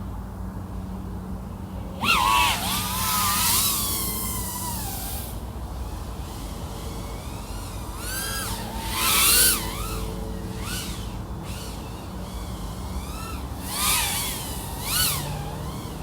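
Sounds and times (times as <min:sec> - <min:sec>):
drone motors whining: 0:01.7 - 0:16.0.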